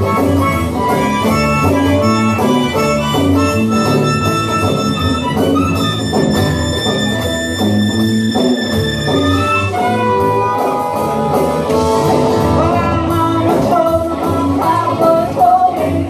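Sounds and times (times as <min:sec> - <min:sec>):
blues-rock band instrumental: 0:00.0 - 0:16.0.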